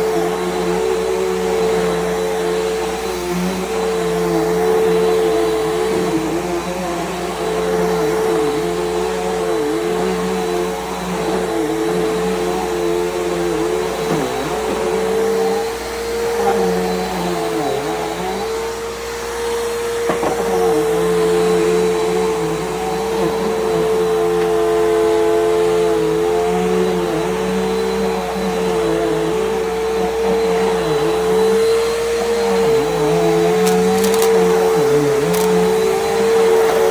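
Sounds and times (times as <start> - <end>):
vacuum cleaner running on carpet: 0.0 - 33.2.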